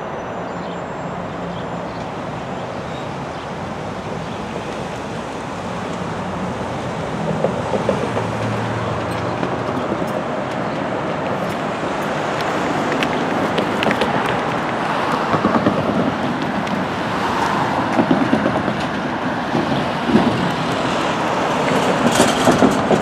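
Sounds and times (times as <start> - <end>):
road traffic noise: 0.0 - 23.0
knocks of cars crossing tracks: 1.6 - 23.0.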